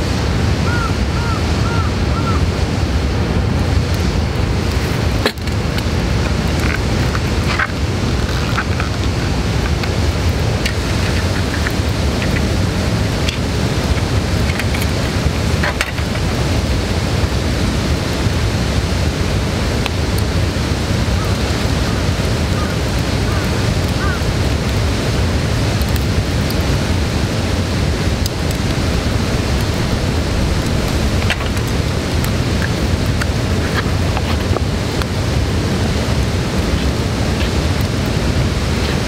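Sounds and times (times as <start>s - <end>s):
fire crackles: 0.0s - 39.0s
wood fire rushing: 0.0s - 39.0s.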